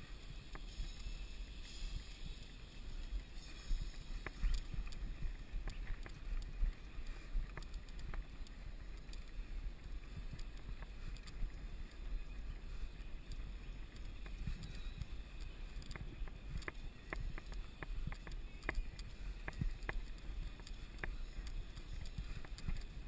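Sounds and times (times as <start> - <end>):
bike clicks and rattles: 0.0 - 23.0
wind rumbling on microphone: 0.0 - 23.0.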